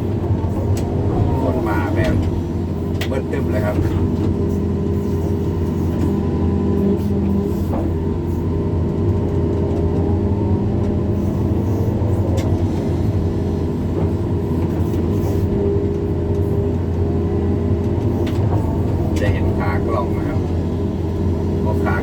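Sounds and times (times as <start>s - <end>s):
excavator diesel engine running: 0.0s - 22.0s
faint shifting whine: 0.0s - 22.0s.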